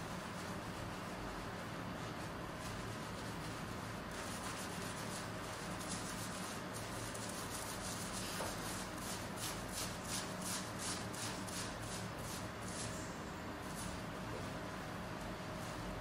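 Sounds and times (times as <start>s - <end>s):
lathered scalp scrubbing: 0.0s - 13.0s
steady low hum: 0.0s - 16.0s.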